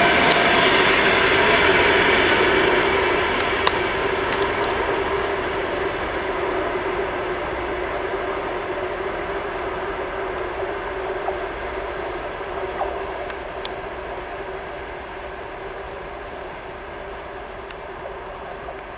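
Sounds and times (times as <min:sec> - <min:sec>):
diesel locomotive engine drone: 0:00.0 - 0:18.9
rumble of train coaches: 0:00.0 - 0:18.9.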